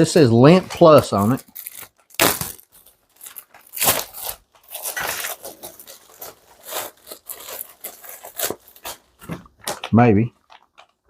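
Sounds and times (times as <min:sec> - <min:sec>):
packaging rustling and tearing: 0:00.3 - 0:11.0.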